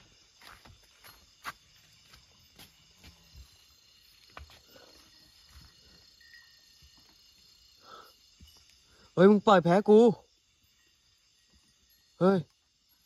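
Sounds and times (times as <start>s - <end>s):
insect trilling: 1.0s - 13.0s.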